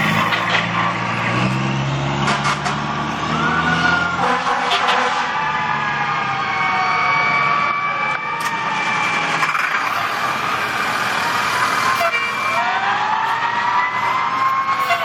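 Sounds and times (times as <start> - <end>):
fire truck siren wailing: 0.0 - 15.0.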